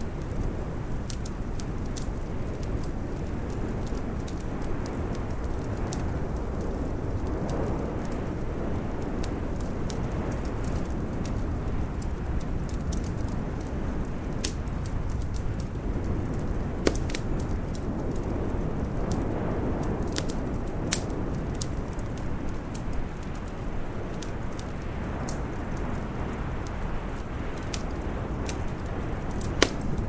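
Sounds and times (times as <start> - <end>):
low rumble of fire: 0.0 - 30.0
wood fire crackling: 0.0 - 30.0.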